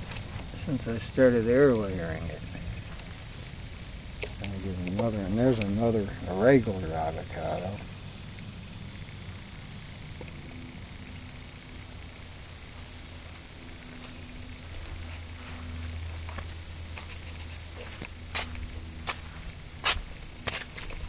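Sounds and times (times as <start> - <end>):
high hiss: 0.0 - 21.0
low hum: 0.0 - 21.0.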